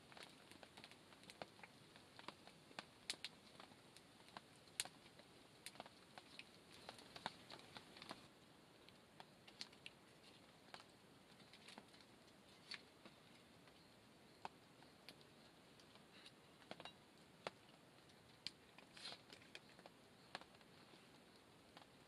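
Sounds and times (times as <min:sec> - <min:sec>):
background hiss: 0:00.0 - 0:22.0
wood fire crackling: 0:00.0 - 0:22.0.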